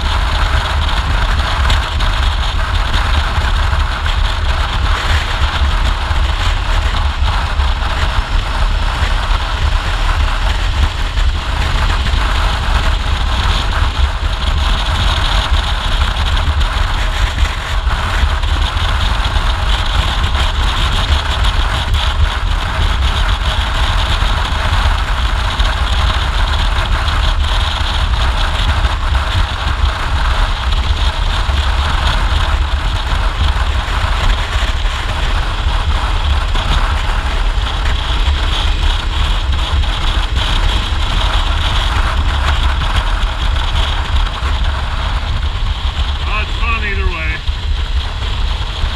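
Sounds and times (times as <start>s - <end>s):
motorcycle engine cruising: 0.0s - 46.4s
wind rush on microphone: 0.0s - 48.9s.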